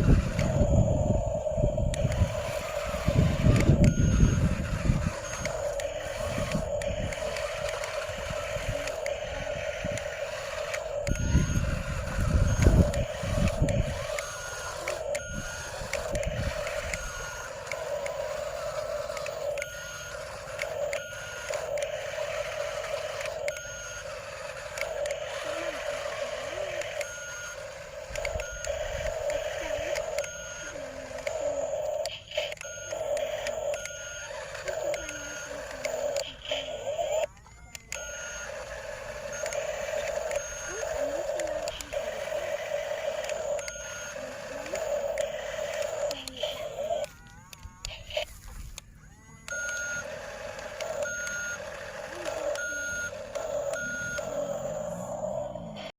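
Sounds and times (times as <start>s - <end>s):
earthmoving machinery whining: 0.0s - 55.9s.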